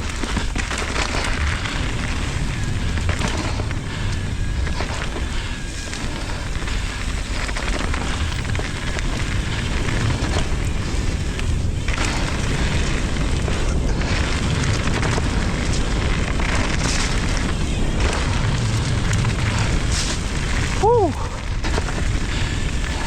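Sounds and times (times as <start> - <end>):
mountain bike rolling on dirt: 0.0 - 23.0
wind rumbling on microphone: 0.0 - 23.0.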